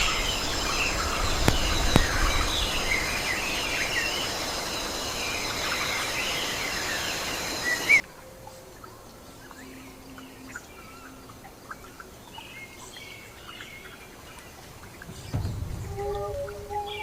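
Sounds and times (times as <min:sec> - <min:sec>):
birds chirping: 0:00.0 - 0:17.0
insects droning: 0:00.0 - 0:17.0.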